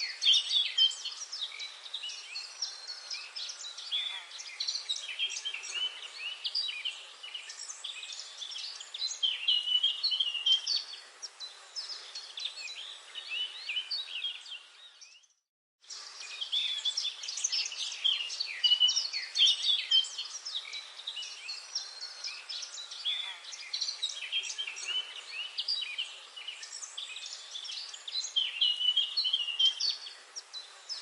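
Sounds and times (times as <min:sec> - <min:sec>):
faint forest hiss: 0:00.0 - 0:31.0
songbirds chirping and singing: 0:00.0 - 0:31.0.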